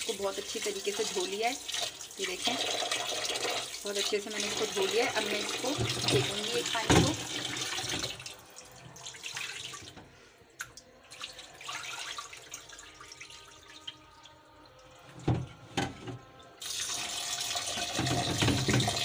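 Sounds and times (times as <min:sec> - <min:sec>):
running tap water: 0:00.0 - 0:13.9, 0:15.0 - 0:19.0
small splashes and drips: 0:00.0 - 0:17.0.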